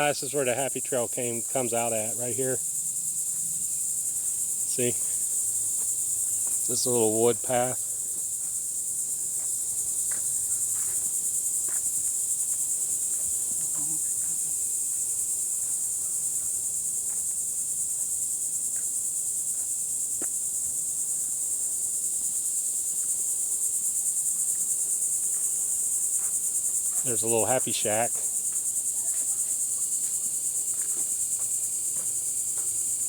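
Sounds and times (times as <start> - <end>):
insects chorus buzzing: 0.0 - 33.0.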